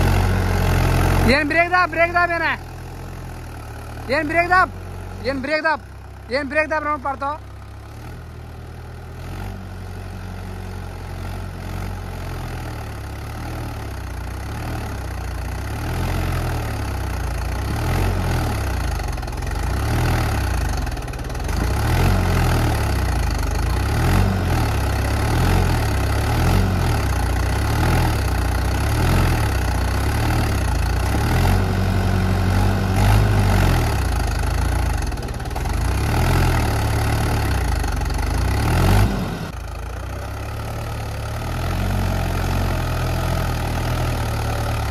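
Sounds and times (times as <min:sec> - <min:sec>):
tractor diesel engine labouring: 0:00.0 - 0:44.9.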